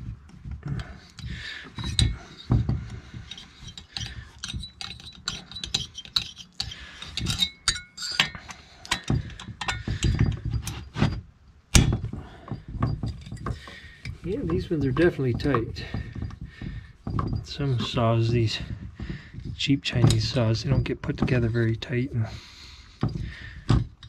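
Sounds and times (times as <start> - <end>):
dull handling thumps: 0.0 - 5.3, 8.9 - 24.0.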